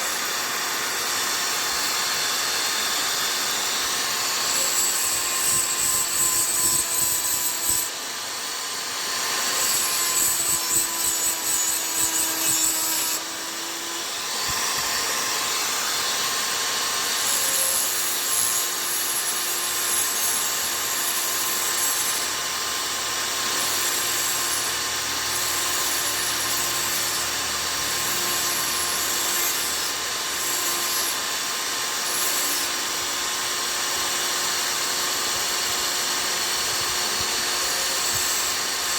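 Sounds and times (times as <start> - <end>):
chisel scraping on abrasive: 0.0 - 38.9.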